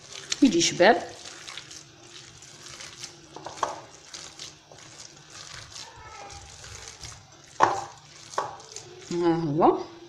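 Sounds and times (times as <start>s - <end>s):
hand squishing minced meat: 0.0s - 9.2s.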